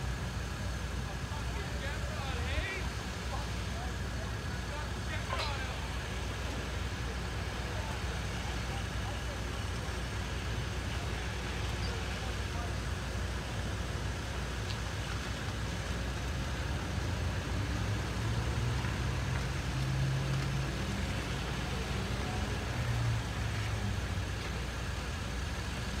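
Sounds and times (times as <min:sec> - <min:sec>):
low motor rumble: 0:00.0 - 0:26.0.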